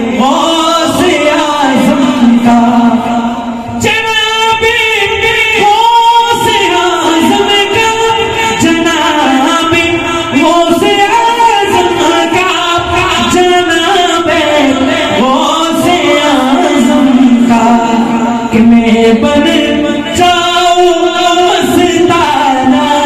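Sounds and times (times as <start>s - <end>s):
man singing devotional song: 0.0s - 23.0s.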